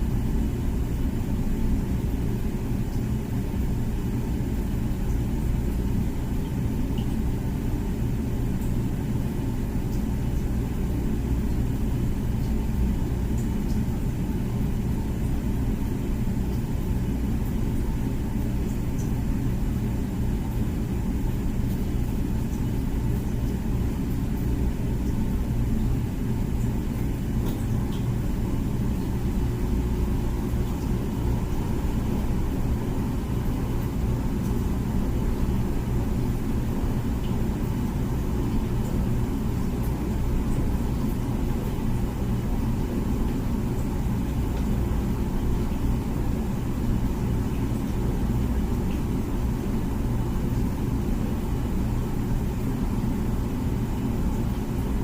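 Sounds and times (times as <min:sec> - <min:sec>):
dishwasher humming: 0:00.0 - 0:55.0.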